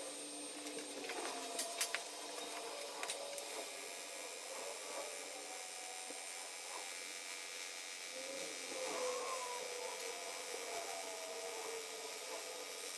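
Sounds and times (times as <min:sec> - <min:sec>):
welding arc hissing: 0:00.0 - 0:12.9.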